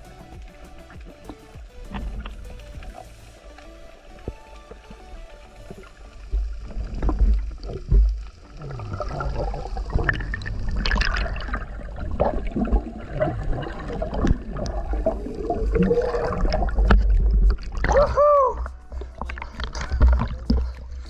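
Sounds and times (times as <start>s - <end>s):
muffled underwater gurgling: 1.2s - 21.0s.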